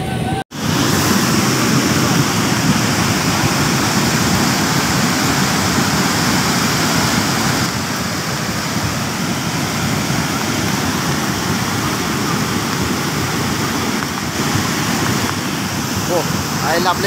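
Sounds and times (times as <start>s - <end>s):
flood water rushing: 0.0s - 17.0s.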